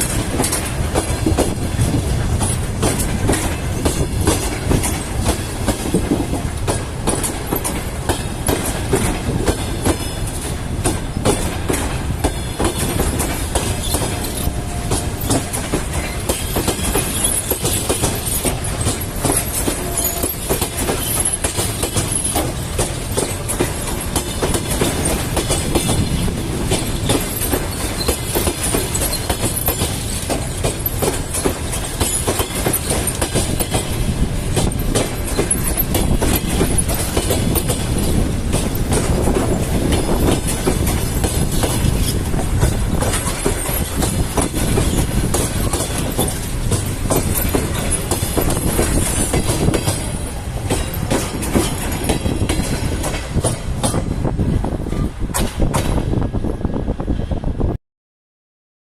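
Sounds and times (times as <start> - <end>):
train wheels clattering over rail joints: 0.0 - 56.8.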